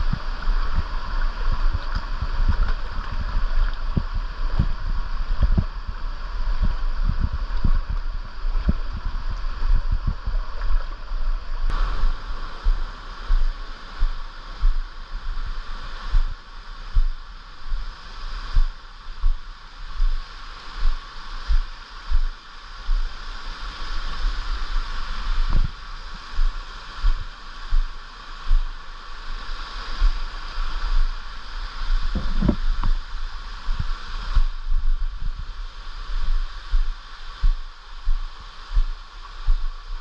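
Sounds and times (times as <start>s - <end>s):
stream water running: 0.0s - 40.0s.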